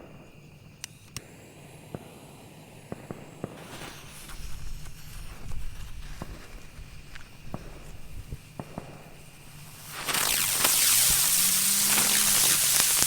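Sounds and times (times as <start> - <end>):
rush of hiss: 0.9 - 13.0.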